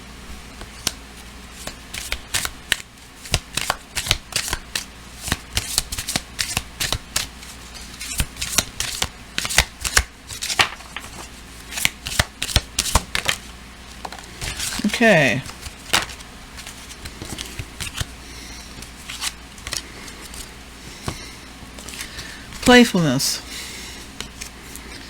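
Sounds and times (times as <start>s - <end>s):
cards being shuffled: 0.6s - 21.2s, 21.8s - 22.8s.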